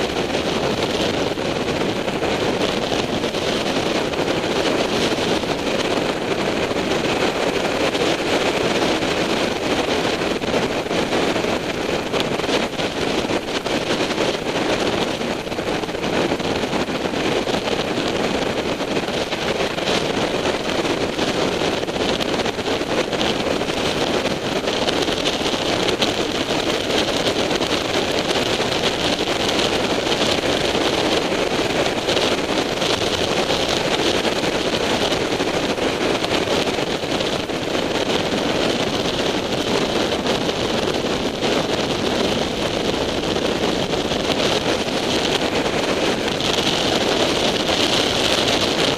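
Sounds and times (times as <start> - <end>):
road noise: 0.0 - 48.9
wind buffeting microphone: 0.0 - 48.9.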